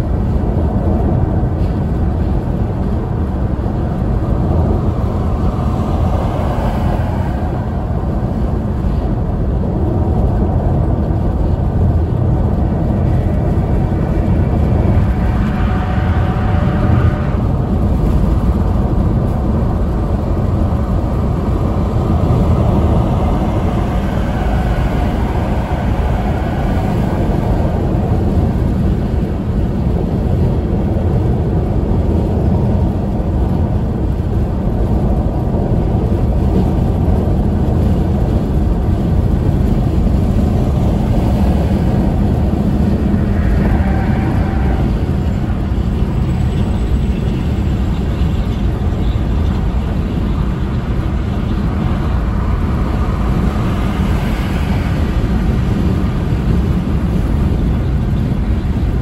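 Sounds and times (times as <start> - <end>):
tyre and wind road noise: 0.0 - 59.0.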